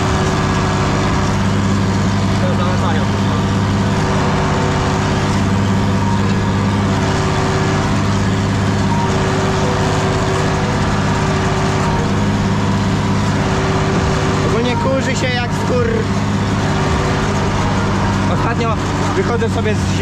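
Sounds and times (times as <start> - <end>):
rough loud exhaust: 0.0 - 20.0
tractor diesel engine running: 0.0 - 20.0.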